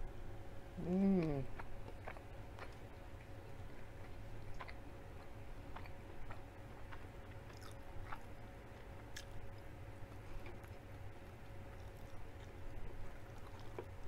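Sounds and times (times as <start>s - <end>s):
faint steady hum: 0.0s - 14.0s
person chewing food: 0.8s - 14.0s.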